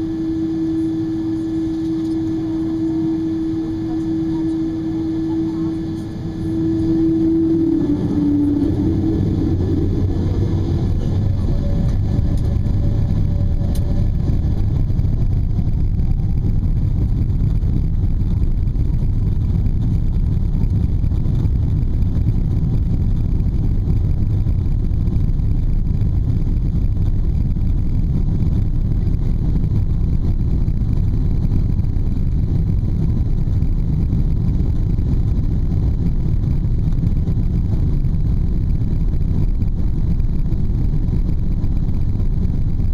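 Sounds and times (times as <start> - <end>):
jet engine low rumble: 0.0 - 42.9
jet engine whine: 0.0 - 42.9.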